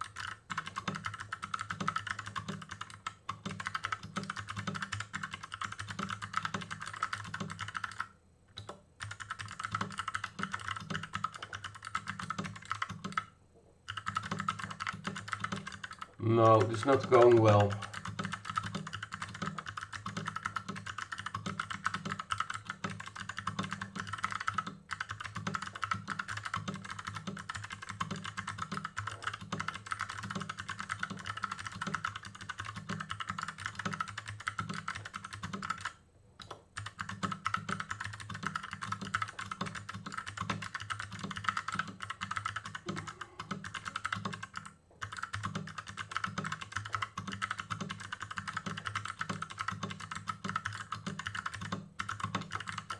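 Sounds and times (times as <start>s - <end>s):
mechanical keyboard typing: 0.0s - 13.3s, 13.9s - 52.9s.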